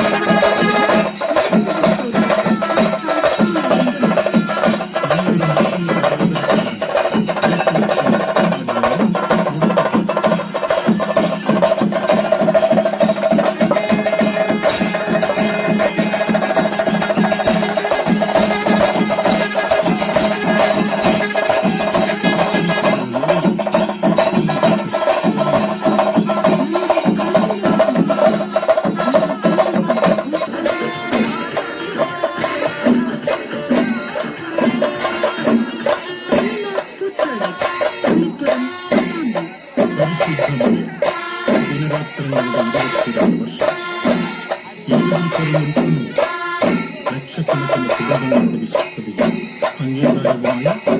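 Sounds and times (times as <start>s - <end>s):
rapid drumming and clacking: 0.0s - 50.9s.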